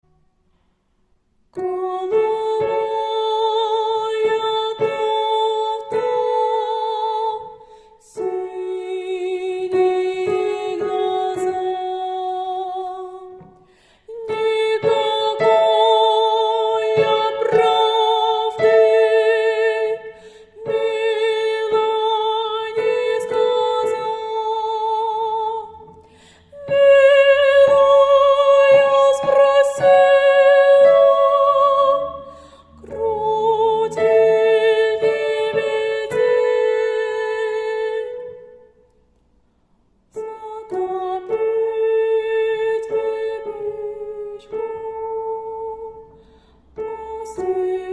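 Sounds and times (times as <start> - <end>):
slow tender melody with vibrato: 1.5 - 39.2, 40.1 - 47.9.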